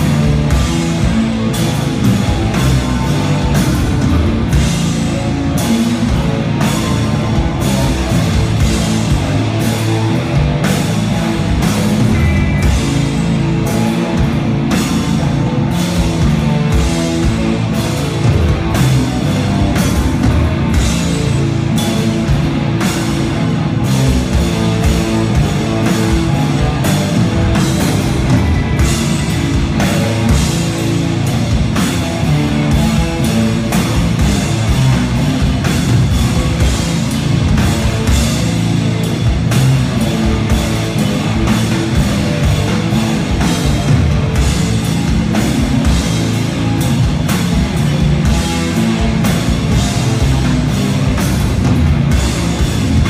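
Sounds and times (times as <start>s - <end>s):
distorted electric guitars and bass: 0.0s - 53.0s
drum beat: 0.0s - 53.0s.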